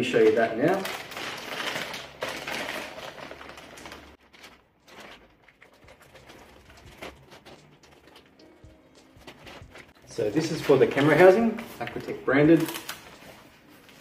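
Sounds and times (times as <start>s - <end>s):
handling noises: 0.0s - 14.0s
plastic packaging crinkling: 0.0s - 14.0s.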